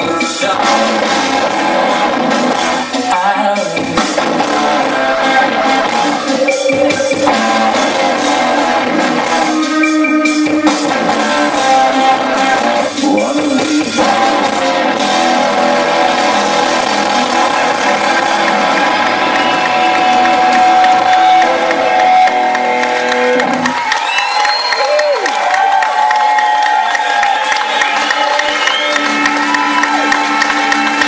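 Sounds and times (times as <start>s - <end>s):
live rock band playing: 0.0s - 25.0s, 28.0s - 31.0s.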